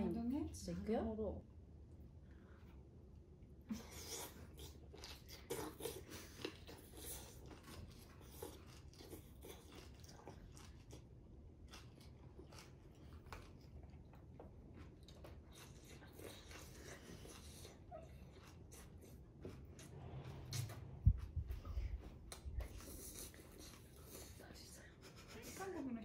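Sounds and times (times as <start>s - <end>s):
open-mouthed chewing: 3.7s - 25.3s.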